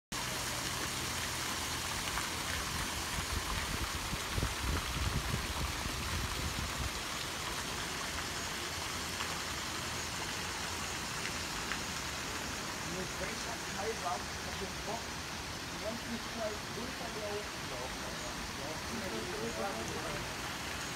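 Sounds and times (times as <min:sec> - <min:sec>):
fountain water falling: 0:00.1 - 0:20.9.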